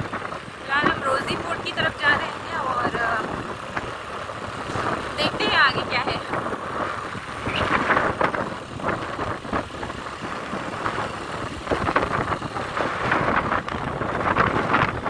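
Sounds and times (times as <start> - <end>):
moving vehicle: 0.0 - 15.0
wind rushing: 0.0 - 15.0.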